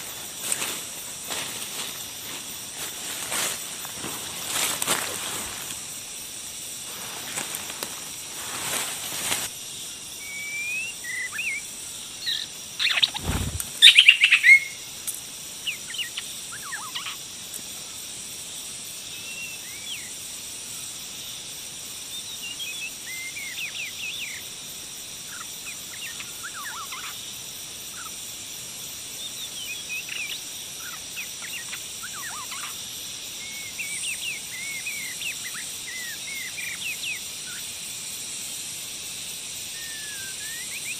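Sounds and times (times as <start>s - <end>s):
steady high hiss: 0.0s - 40.9s.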